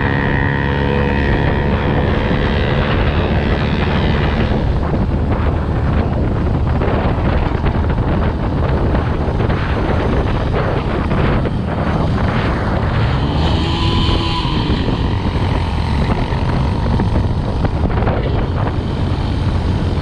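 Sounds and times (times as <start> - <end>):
dirt bike engine running: 0.0 - 20.0
wind buffeting microphone: 0.0 - 20.0.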